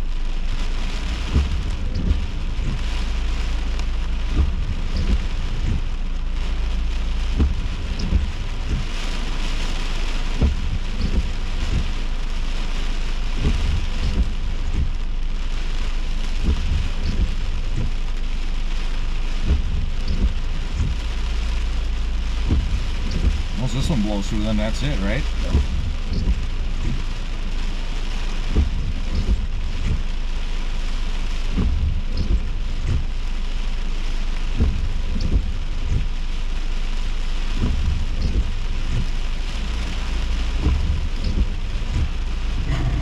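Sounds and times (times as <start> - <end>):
heavy rain hiss: 0.0 - 43.0
low thumps: 0.9 - 12.7, 13.3 - 15.6, 16.4 - 18.4, 19.0 - 30.2, 31.5 - 33.3, 34.5 - 36.2, 37.5 - 43.0.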